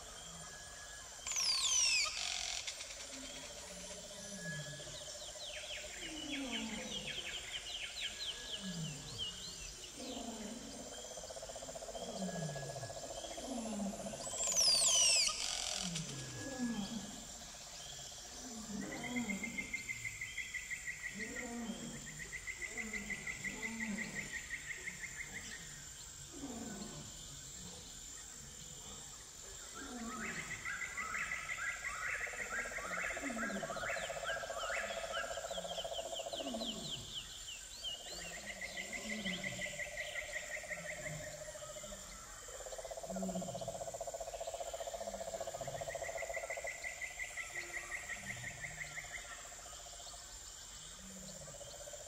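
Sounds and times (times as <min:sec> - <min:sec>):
high insect-like whine: 0:00.0 - 0:52.0.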